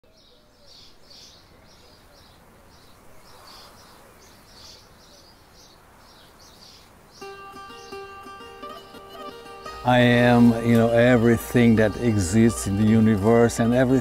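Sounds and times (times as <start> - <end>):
birds chirping: 0.0 - 14.0
outdoor background hiss: 0.0 - 14.0.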